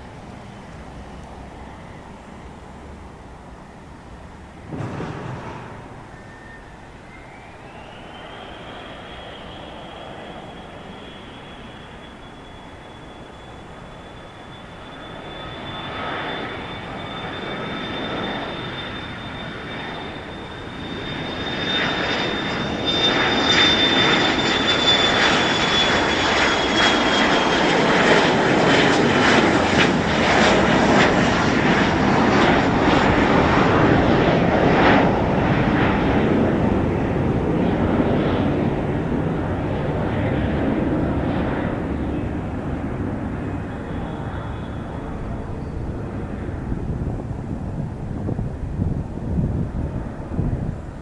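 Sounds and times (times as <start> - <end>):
jet engines whine and roar: 0.0 - 51.0.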